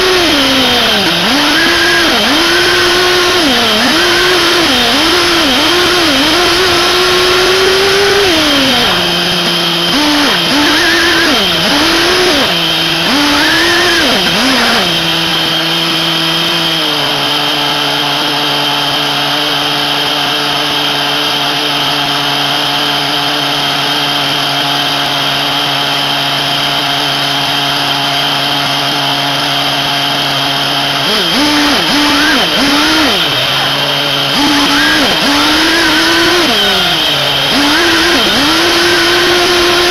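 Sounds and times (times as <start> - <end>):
model car engine revving: 0.0 - 39.9.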